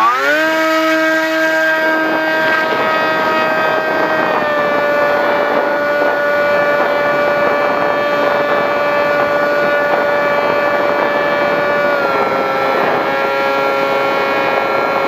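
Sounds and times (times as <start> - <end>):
electric motor and propeller whine: 0.0 - 15.0
rushing air: 1.0 - 15.0.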